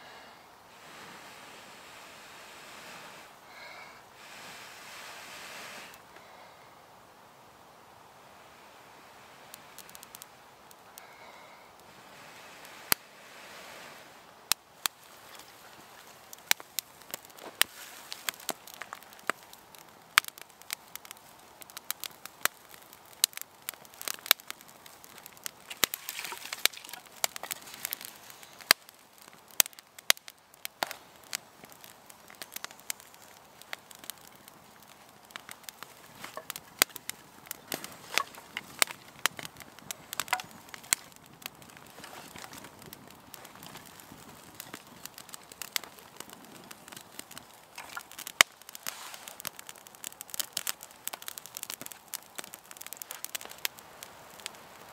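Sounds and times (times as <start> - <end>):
campfire crackling and popping: 0.7 - 54.9.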